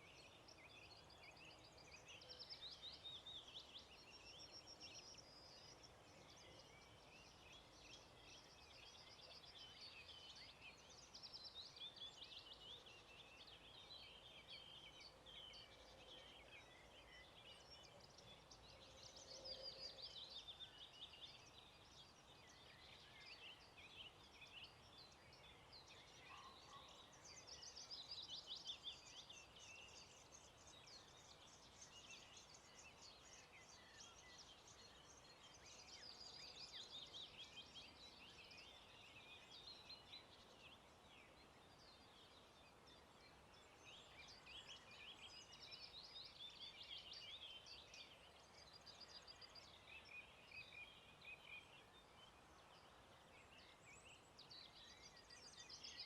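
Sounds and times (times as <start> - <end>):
soft steady hiss: 0.0 - 56.0
songbirds singing: 0.0 - 56.0.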